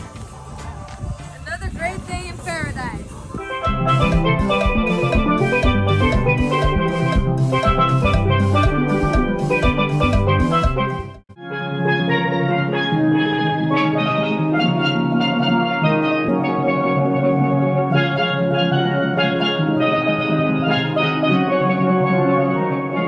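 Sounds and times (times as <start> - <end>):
low musical accompaniment: 3.4 - 23.0
melody of struck ringing notes: 3.4 - 23.0.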